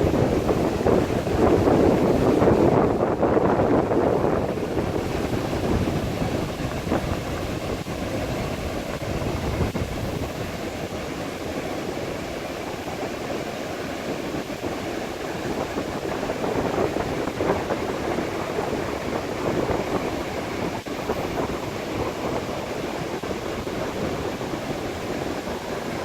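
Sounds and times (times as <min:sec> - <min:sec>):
ocean surf on beach: 0:00.0 - 0:26.0
wind rumbling on microphone: 0:00.0 - 0:26.0.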